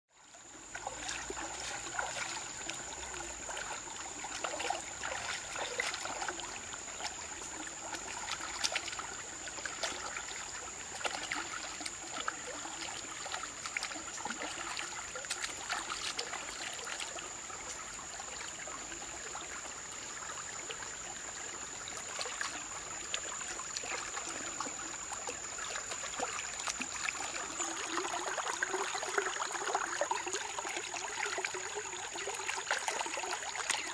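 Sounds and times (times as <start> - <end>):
flowing stream water: 0.1 - 33.9.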